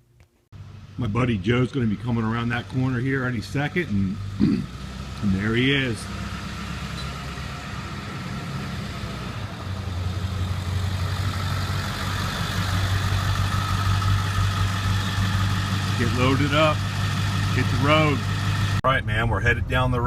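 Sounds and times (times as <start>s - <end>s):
diesel truck engine idling: 0.6s - 19.0s.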